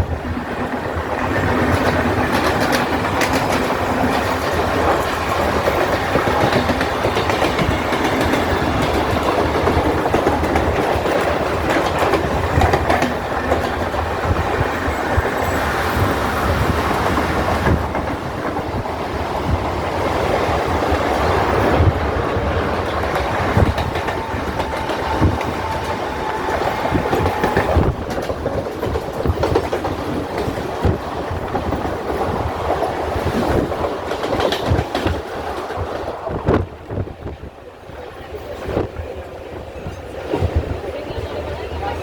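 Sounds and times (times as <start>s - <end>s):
sharp clicks of train wheels: 0.0s - 37.4s
high hiss of passing train: 0.0s - 42.0s
train wheels rumbling on rails: 0.0s - 42.0s.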